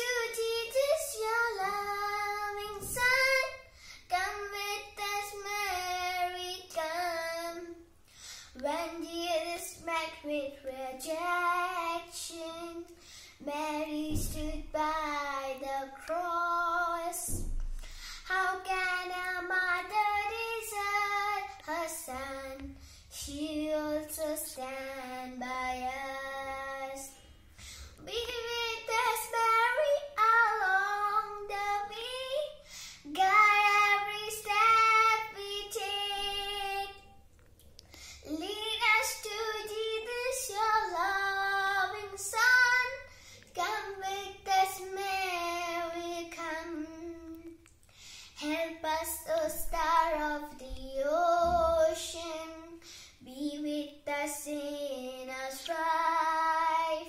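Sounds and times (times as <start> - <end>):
girl singing a hymn solo: 0.0 - 37.3, 37.9 - 57.0.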